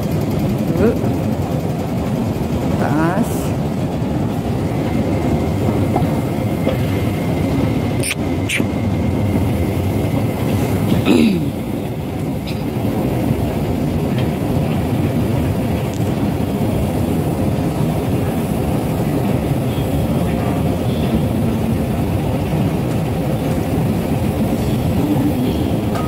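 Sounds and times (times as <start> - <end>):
escalator rumbling: 0.0 - 26.0.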